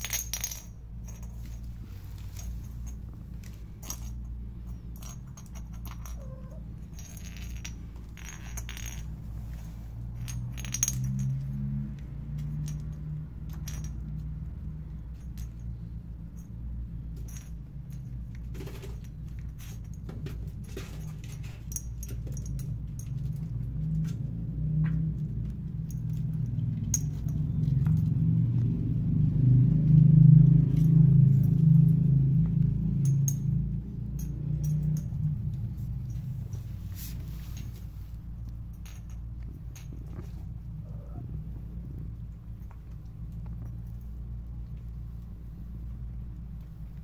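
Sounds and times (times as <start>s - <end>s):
steady low rumble: 0.0s - 18.5s, 19.1s - 47.0s.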